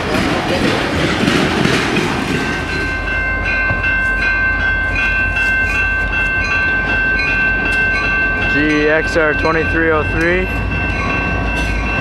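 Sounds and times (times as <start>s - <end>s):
crossing bell ringing: 0.0s - 12.0s
diesel locomotive rumble: 0.0s - 12.0s.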